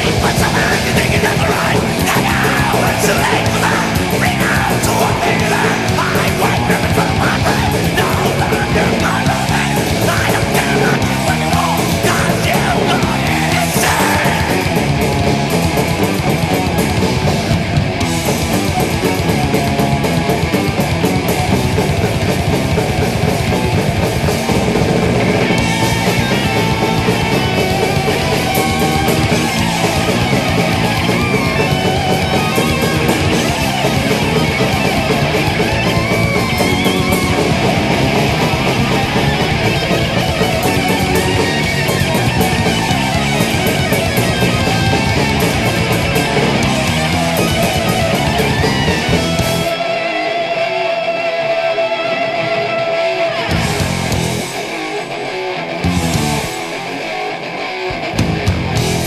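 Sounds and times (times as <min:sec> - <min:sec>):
drum kit: 0:00.0 - 0:50.7, 0:51.9 - 0:59.0
distorted electric guitars: 0:00.0 - 0:59.0.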